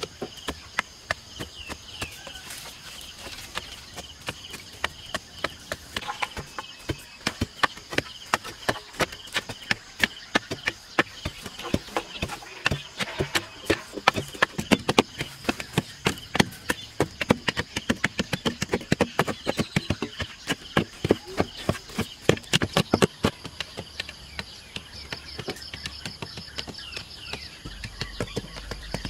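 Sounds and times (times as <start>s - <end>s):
wooden stick pounding soil: 0.0s - 29.0s.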